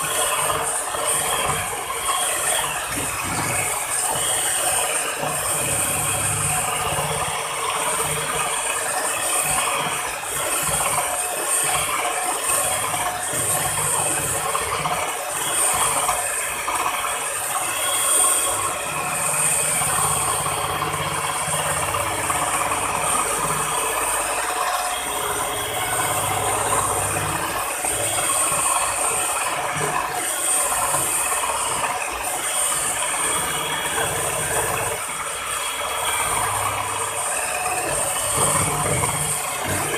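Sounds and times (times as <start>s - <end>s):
electric hand mixer whipping: 0.0s - 39.9s.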